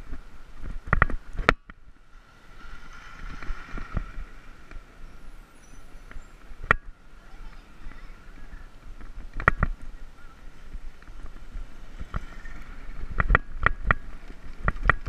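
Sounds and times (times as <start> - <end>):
bicycle road noise: 0.0 - 15.0.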